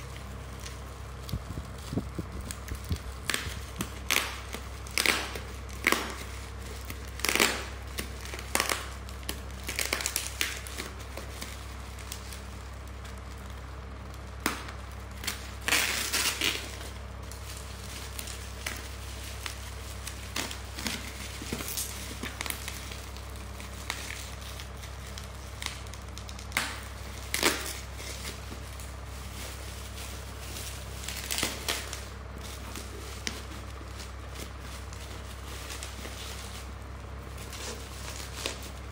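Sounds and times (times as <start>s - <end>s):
bubble wrap crinkling: 0.0s - 38.9s
steady low hum: 0.0s - 38.9s.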